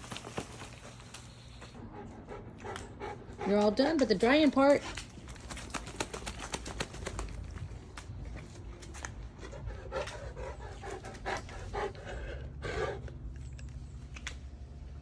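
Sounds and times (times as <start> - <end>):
low hum: 0.0 - 15.0
dog panting: 0.5 - 14.0.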